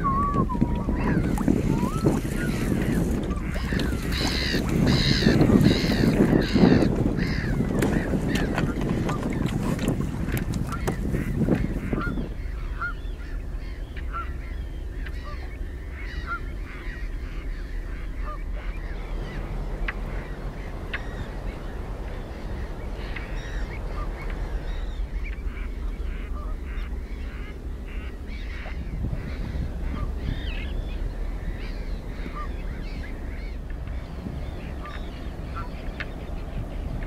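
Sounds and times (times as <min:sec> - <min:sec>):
birds calling: 0:00.0 - 0:37.0
steady low rumble: 0:00.0 - 0:37.0.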